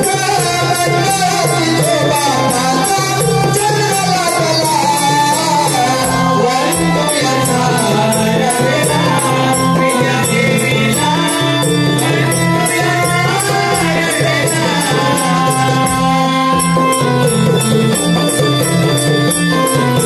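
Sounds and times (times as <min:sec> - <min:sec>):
devotional song melody: 0:00.0 - 0:20.0
jingling percussion: 0:00.0 - 0:20.0.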